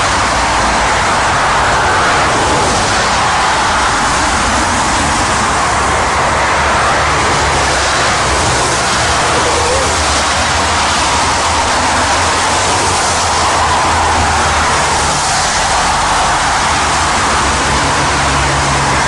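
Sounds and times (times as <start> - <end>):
jet engine roar over loudspeakers: 0.0 - 19.0.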